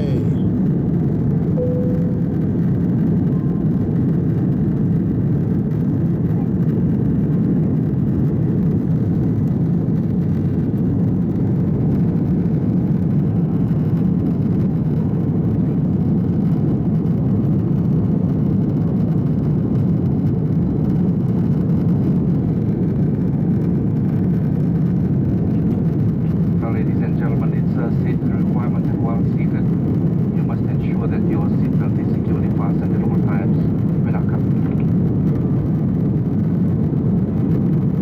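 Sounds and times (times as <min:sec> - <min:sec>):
jet engine cabin rumble: 0:00.0 - 0:38.0.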